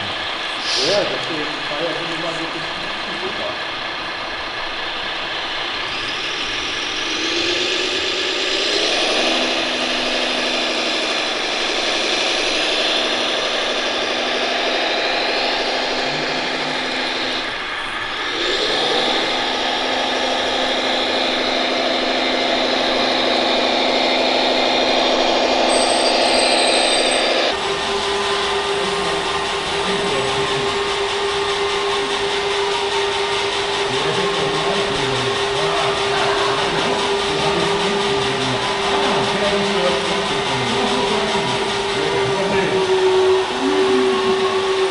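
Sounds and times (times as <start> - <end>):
model truck motor whine: 0.0 - 44.9.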